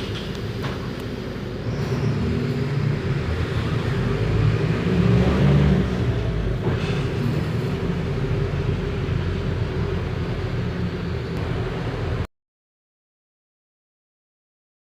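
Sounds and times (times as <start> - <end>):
bus diesel engine running: 0.0 - 12.3.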